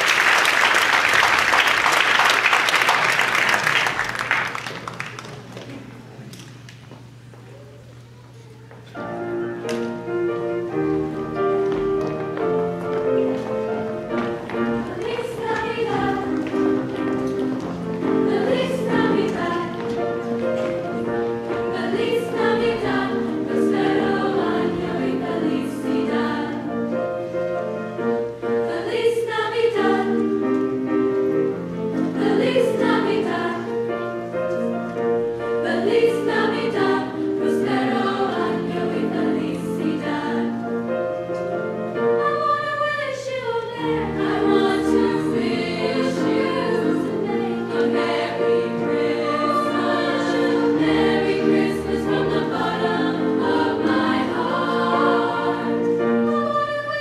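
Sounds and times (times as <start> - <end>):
women's choir singing: 10.6 - 57.0.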